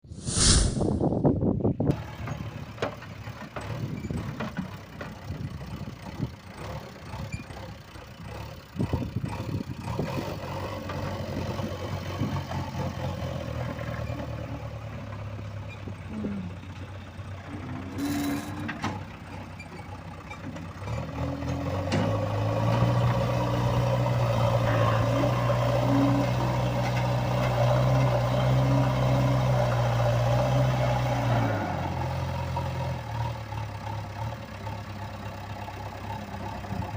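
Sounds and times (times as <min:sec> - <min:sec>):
engine knocks and clatter: 0:01.6 - 0:36.9
vehicle engine running: 0:01.9 - 0:36.9.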